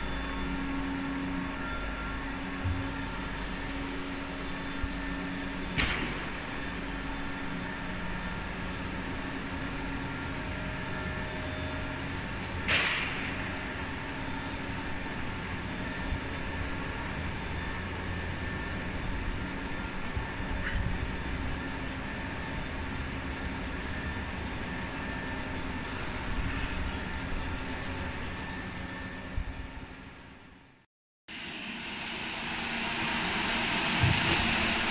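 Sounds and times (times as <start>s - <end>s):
factory machinery hum: 0.0s - 34.9s.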